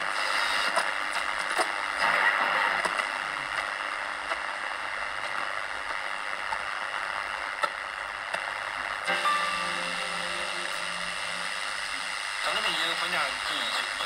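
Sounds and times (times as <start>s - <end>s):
radio crackles: 0.0s - 14.0s
radio static hiss: 0.0s - 14.0s.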